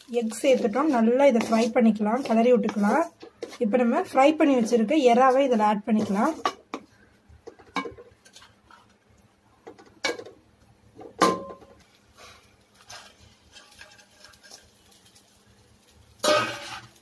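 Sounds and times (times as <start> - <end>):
wooden spatula stirring in pan: 0.0 - 9.9, 11.8 - 17.0.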